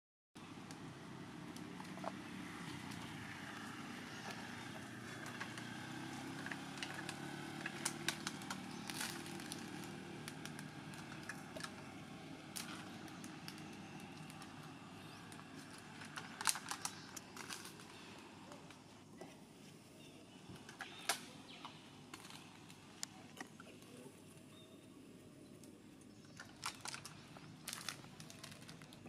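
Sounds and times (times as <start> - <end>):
distant traffic drone: 0.4 - 29.0
sharp clicks and crackles: 1.5 - 18.8, 20.5 - 24.0, 25.6 - 29.0.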